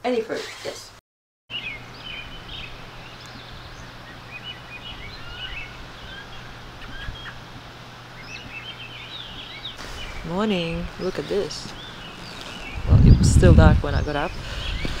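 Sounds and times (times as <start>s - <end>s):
small birds chirping: 1.5s - 15.0s
steady low hum: 1.5s - 15.0s.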